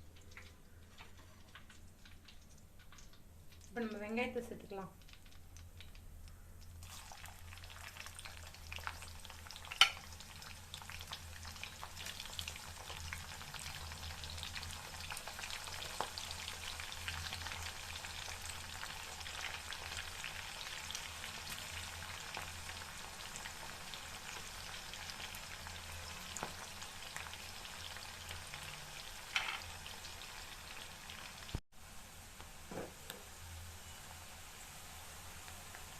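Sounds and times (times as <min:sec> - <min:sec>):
onions sizzling in hot oil: 0:06.8 - 0:35.9.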